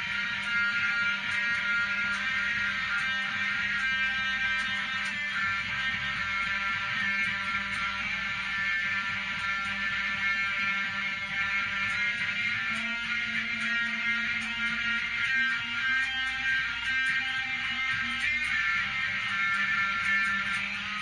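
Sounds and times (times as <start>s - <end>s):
bass guitar: 0.0s - 21.0s
electric guitar notes ringing: 0.0s - 21.0s.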